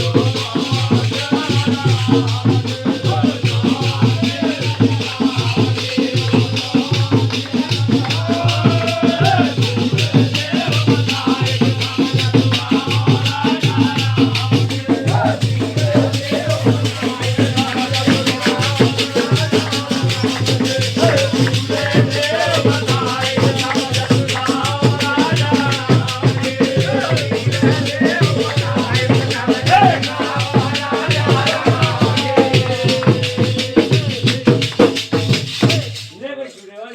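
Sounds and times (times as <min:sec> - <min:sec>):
jingling rattling percussion: 0:00.0 - 0:36.8
voices singing: 0:00.0 - 0:36.9.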